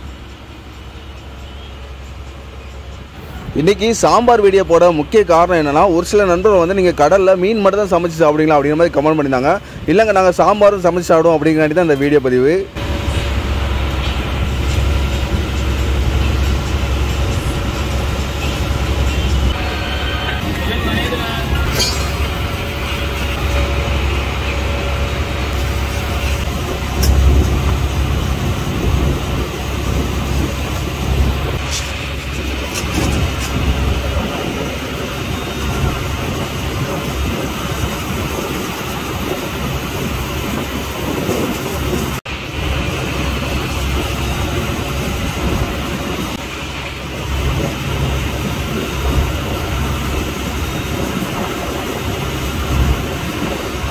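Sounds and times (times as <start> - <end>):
boat engine droning: 0.0 - 53.9
wind and sea noise: 0.0 - 53.9.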